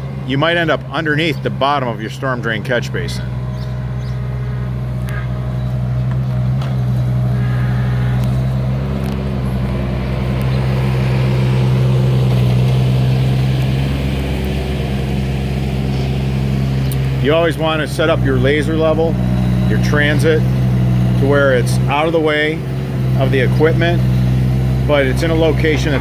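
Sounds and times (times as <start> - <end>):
excavator diesel engine droning: 0.0 - 26.0.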